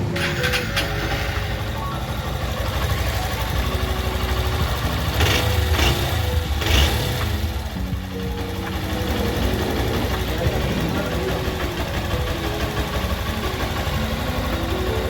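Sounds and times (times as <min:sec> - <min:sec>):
background music: 0:00.0 - 0:15.0
motorcycle engine idling: 0:00.0 - 0:15.0.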